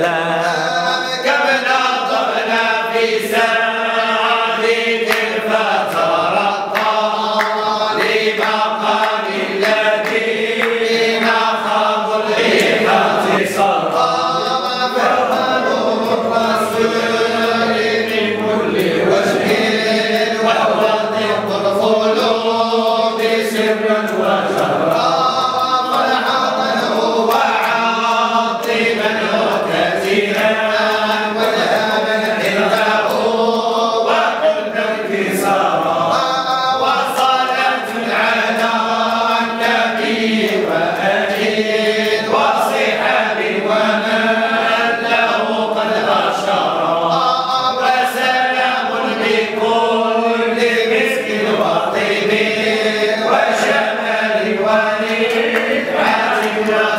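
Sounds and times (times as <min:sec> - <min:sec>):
men singing unaccompanied: 0:00.0 - 0:56.9.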